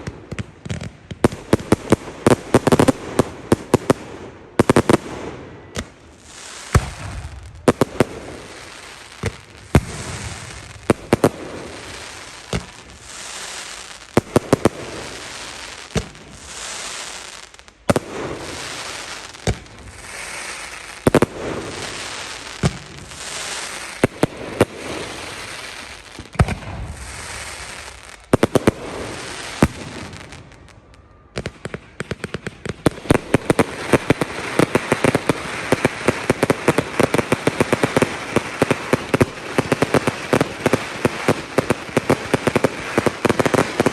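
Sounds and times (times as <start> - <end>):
fireworks bangs: 0.0 - 43.9
fireworks crackling and hissing: 0.0 - 43.9.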